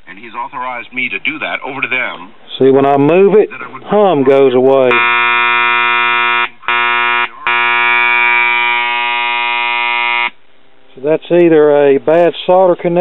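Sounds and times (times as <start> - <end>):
electrical hum from speakers: 0.0 - 13.0.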